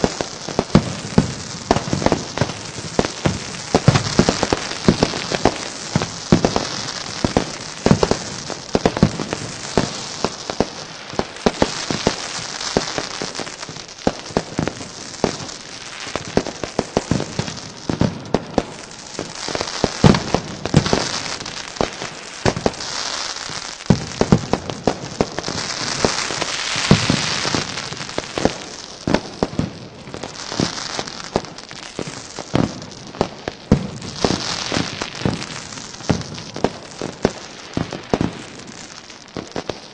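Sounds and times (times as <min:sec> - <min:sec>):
crackling hiss: 0:00.0 - 0:39.9
fireworks bangs and pops: 0:00.0 - 0:39.9.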